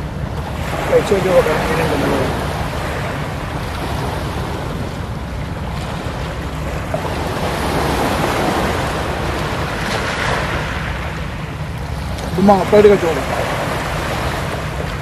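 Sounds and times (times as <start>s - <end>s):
sea surf washing ashore: 0.0s - 15.0s
wind rumbling on microphone: 0.0s - 15.0s.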